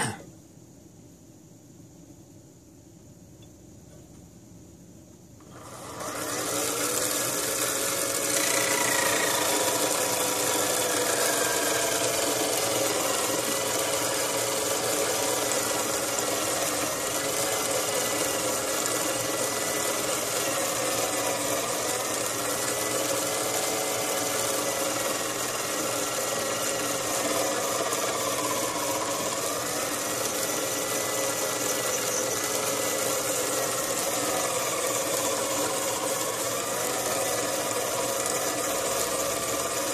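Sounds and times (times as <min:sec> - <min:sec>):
cutter hiss: 0:05.4 - 0:39.9
milling spindle motor whine: 0:05.4 - 0:39.9.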